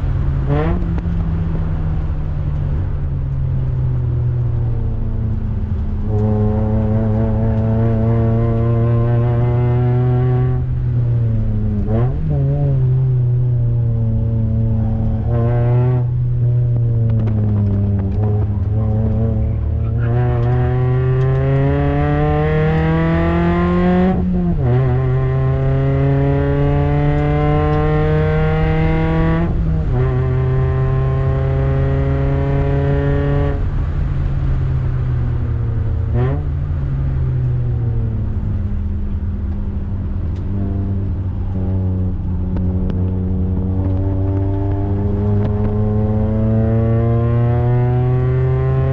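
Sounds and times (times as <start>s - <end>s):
race car engine accelerating: 4.8s - 34.0s, 37.9s - 48.9s.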